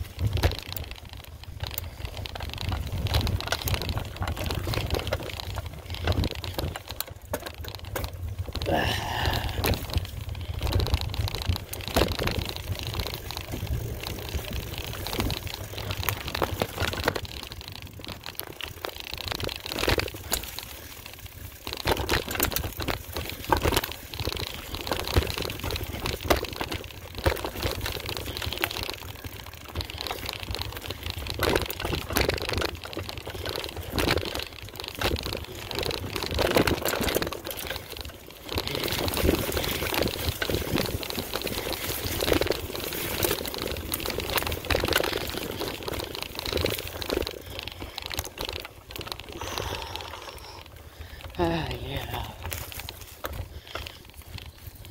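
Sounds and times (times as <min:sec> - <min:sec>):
bike clicks and rattles: 0:00.0 - 0:54.9
bike tyres grinding on trail: 0:00.0 - 0:54.9.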